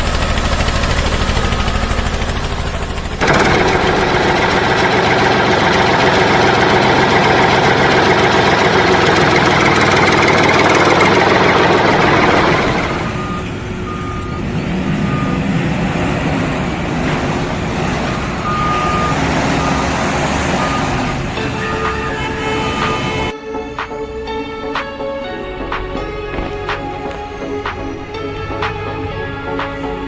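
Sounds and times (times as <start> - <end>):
loud engine running: 0.0 - 30.0
reversing beeper: 0.3 - 16.7, 18.4 - 30.0.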